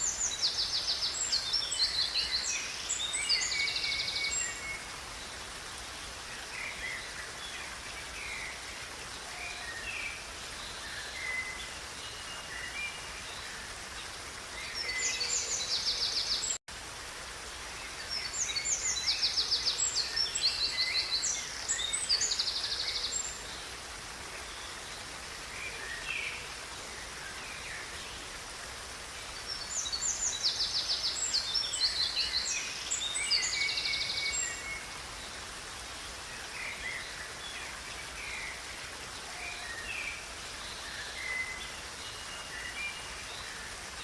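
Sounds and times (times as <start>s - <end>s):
river rushing: 0.0s - 44.0s
songbirds chirping and trilling: 0.0s - 44.0s.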